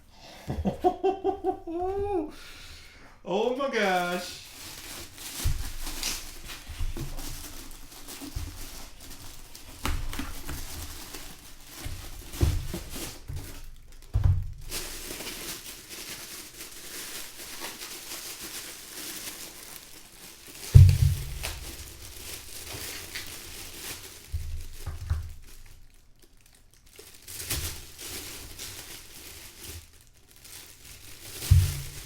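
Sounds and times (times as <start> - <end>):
plastic wrap crinkling: 0.8 - 2.3, 3.3 - 32.0.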